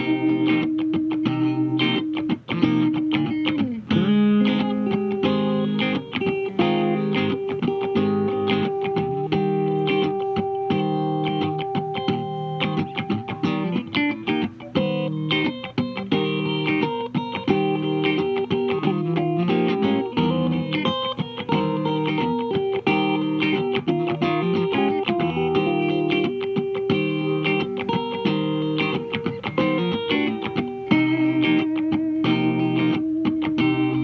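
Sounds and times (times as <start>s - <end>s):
electric guitar picked notes: 0.0s - 34.0s.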